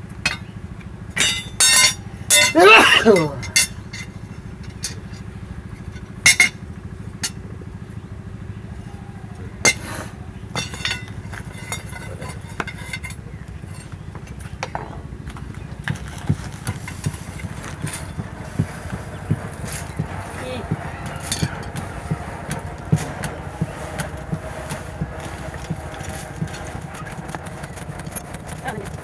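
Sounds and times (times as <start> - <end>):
low mechanical drone: 0.0 - 29.0.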